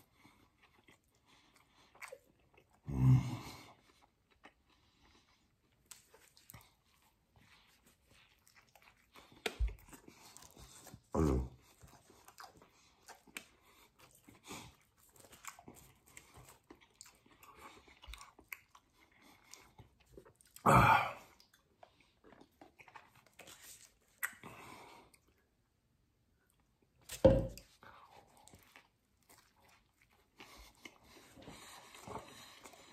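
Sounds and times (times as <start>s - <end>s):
man chewing food: 0.0s - 32.9s.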